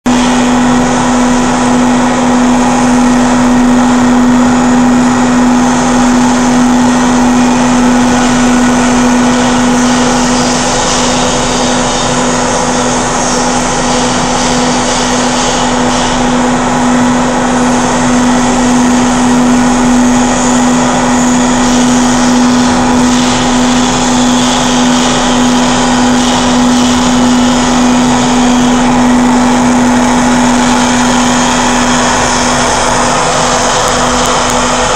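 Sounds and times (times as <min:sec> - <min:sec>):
vacuum cleaner motor humming: 0:00.0 - 0:34.9
rushing hiss of air: 0:04.6 - 0:34.9.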